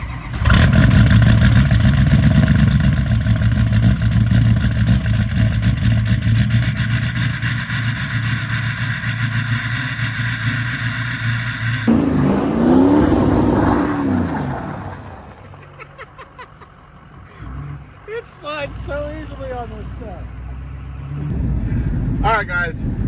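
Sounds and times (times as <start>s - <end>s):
diesel truck engine running hard: 0.0s - 23.0s.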